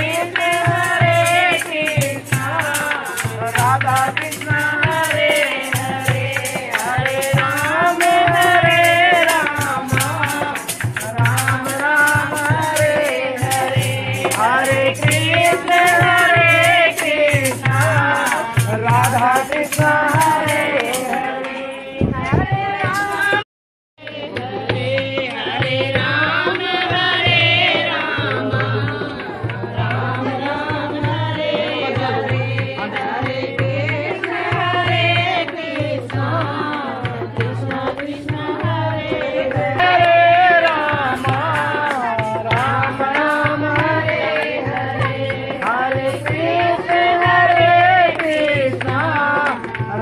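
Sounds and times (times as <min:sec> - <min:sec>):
tabla-like percussion beat: 0:00.0 - 0:23.4, 0:24.0 - 0:50.0.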